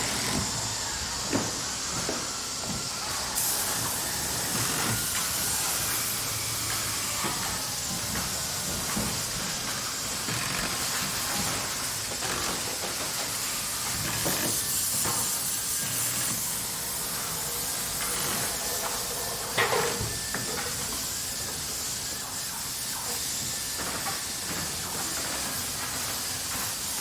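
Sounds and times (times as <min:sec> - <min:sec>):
machinery hissing: 0:00.0 - 0:27.0.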